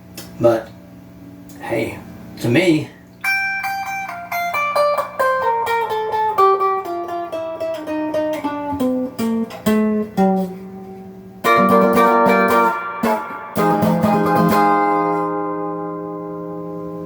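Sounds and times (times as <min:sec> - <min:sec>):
electric guitar single notes: 0:03.2 - 0:17.0
electric guitar strummed chord: 0:03.2 - 0:17.0.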